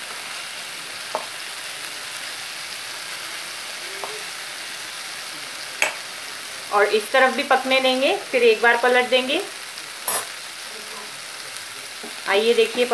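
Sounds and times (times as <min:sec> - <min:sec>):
food sizzling in oil: 0:00.0 - 0:12.9.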